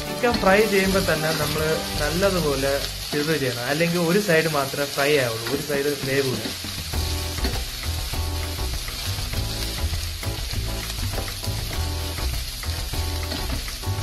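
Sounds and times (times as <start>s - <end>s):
background music: 0.0s - 4.7s, 5.4s - 14.0s
chicken and onions sizzling: 0.0s - 14.0s.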